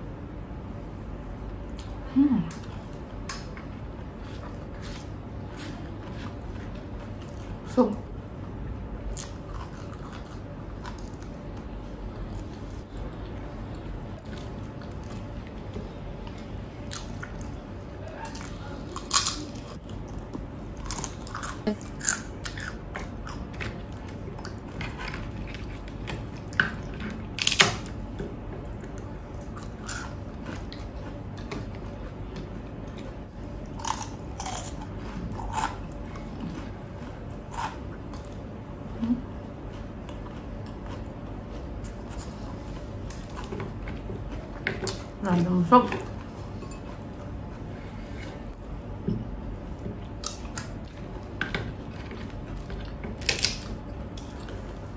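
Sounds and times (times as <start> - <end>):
person chewing crunchy food: 1.5 - 7.7, 9.0 - 45.2, 49.6 - 54.9.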